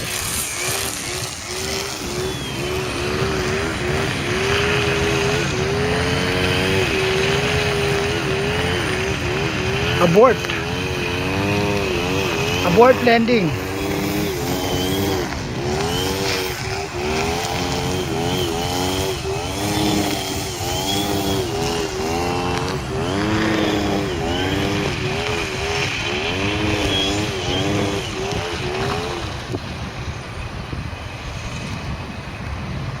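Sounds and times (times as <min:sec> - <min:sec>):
model plane motor whining: 0:00.0 - 0:32.0.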